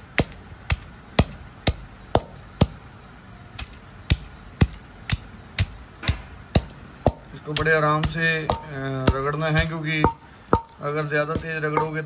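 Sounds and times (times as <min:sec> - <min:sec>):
wooden pestle pounding in mortar: 0:00.2 - 0:02.8, 0:03.6 - 0:12.0.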